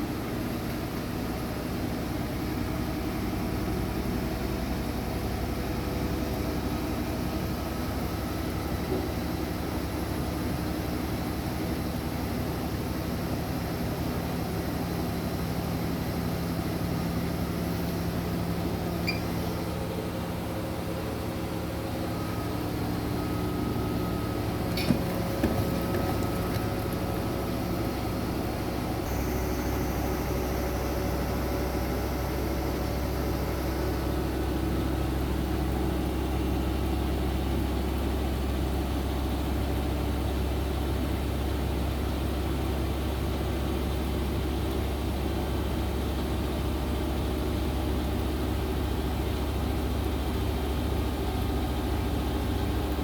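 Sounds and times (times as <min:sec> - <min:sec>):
washing machine running: 0:00.0 - 0:53.0.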